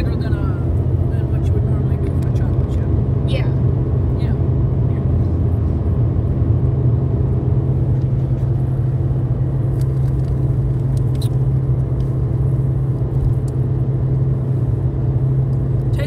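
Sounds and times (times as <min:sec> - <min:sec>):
car cabin drone: 0:00.0 - 0:16.0.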